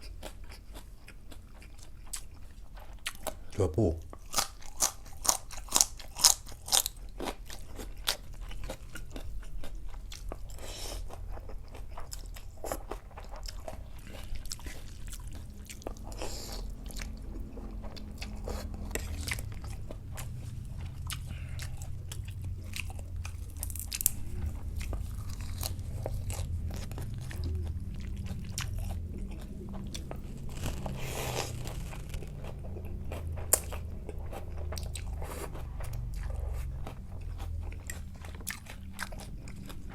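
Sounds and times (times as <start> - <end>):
person crunching and chewing: 0.0 - 39.9
steady low hum: 0.0 - 39.9.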